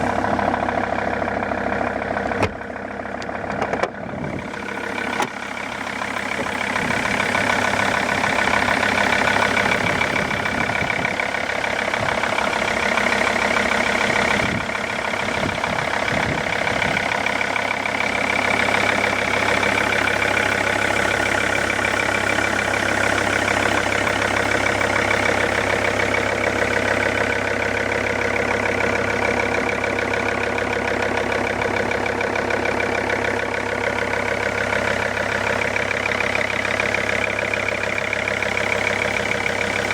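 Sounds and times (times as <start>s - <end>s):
car engine idling with a knock: 0.0s - 39.9s.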